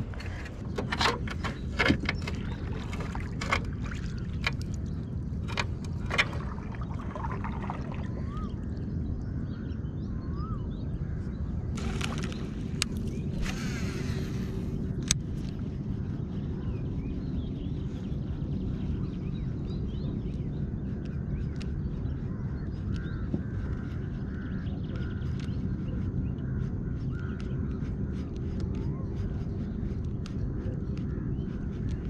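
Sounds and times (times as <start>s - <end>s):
birds chirping: 0.0s - 32.0s
steady low rumble: 0.0s - 32.0s.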